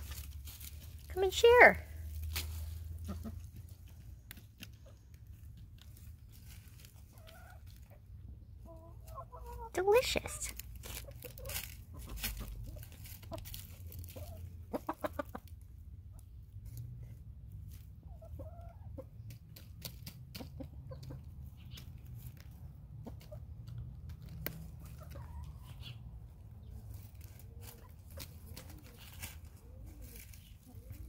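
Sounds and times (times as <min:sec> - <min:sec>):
hens clucking: 0:00.0 - 0:31.0
hens pecking: 0:00.0 - 0:31.0.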